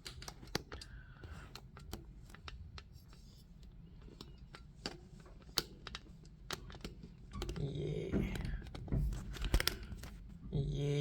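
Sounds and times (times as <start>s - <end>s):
small clicks and taps at a desk: 0.0s - 7.6s, 8.3s - 10.2s.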